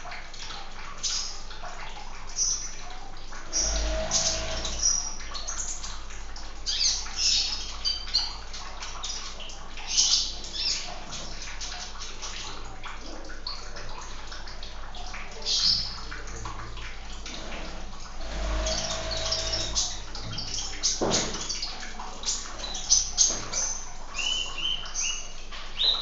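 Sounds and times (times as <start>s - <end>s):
running splashing water: 0.0s - 26.0s.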